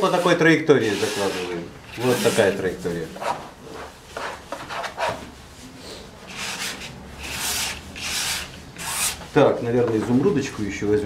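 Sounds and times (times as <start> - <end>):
brush scrubbing paint on canvas: 0.1 - 9.4.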